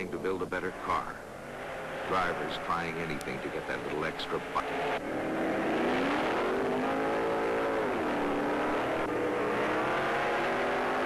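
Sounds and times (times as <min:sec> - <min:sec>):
drag car engine at full throttle: 0:00.0 - 0:11.0.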